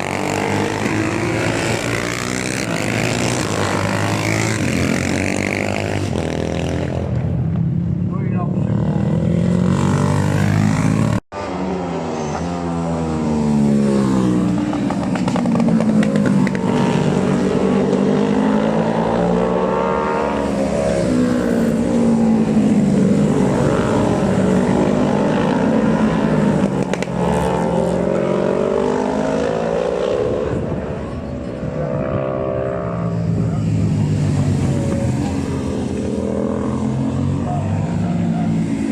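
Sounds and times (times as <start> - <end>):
racing motorcycles revving past: 0.0 - 7.7, 8.5 - 38.9.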